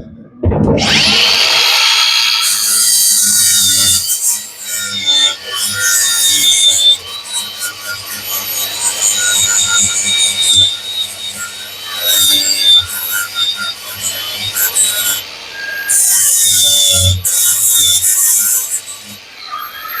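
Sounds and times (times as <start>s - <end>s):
abrasive rasping on metal: 0.8s - 20.0s.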